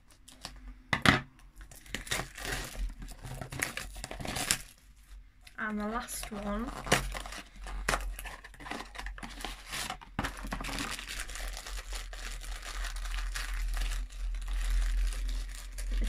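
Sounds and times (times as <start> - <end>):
packaging tearing and crinkling: 1.6 - 4.8, 6.2 - 16.0.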